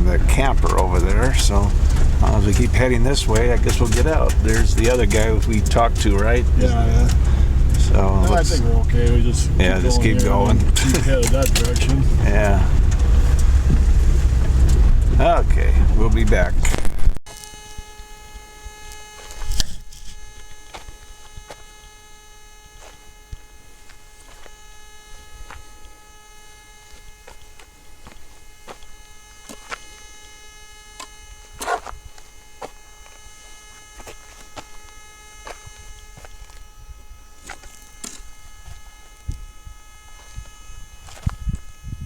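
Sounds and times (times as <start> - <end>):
steady high hum: 0.0 - 42.0.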